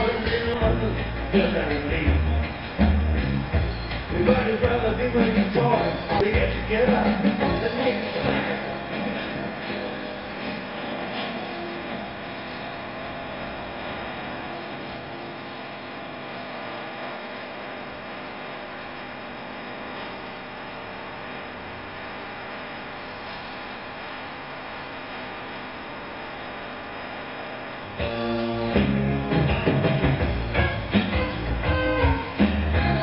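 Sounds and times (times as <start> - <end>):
potter's wheel humming: 0.0 - 33.0.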